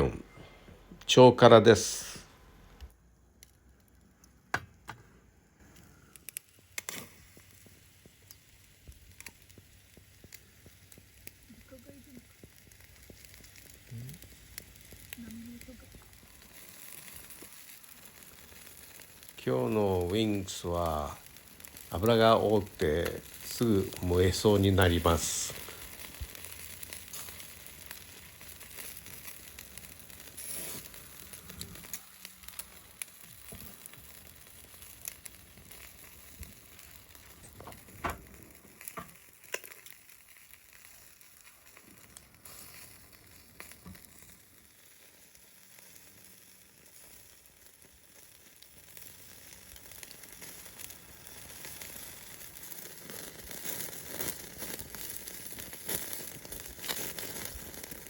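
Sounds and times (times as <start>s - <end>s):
fat popping and crackling: 0.0s - 58.0s
chicken wings sizzling on a grill: 1.1s - 2.2s, 3.2s - 58.0s.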